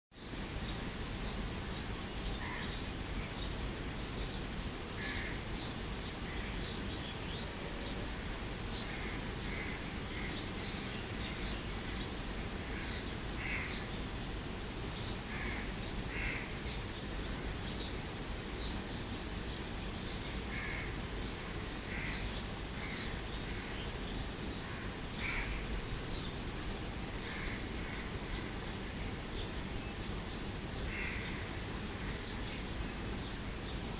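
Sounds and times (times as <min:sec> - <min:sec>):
steady low background noise: 0:00.1 - 0:33.9
birds calling: 0:00.2 - 0:33.9.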